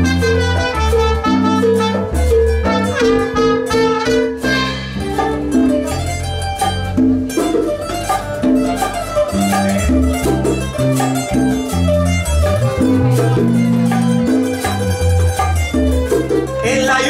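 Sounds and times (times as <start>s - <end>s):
bass line: 0.0s - 17.0s
instrumental string music: 0.0s - 17.0s.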